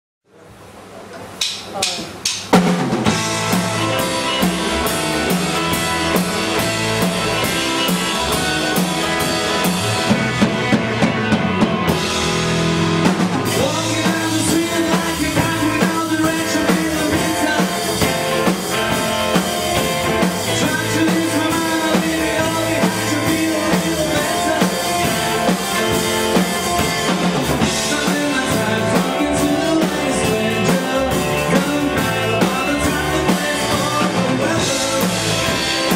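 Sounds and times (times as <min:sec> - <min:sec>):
rock band playing: 0:01.4 - 0:35.9.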